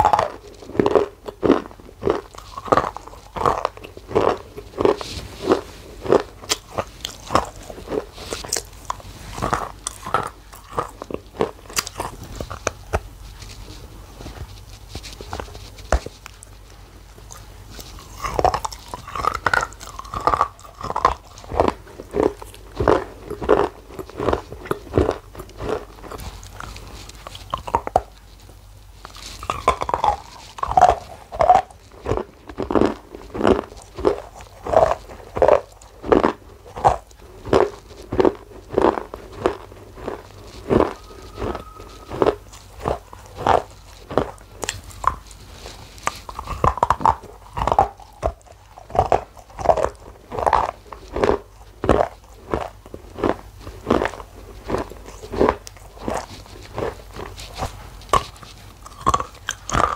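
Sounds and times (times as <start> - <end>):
crunchy biting and chewing: 0.0 - 59.9.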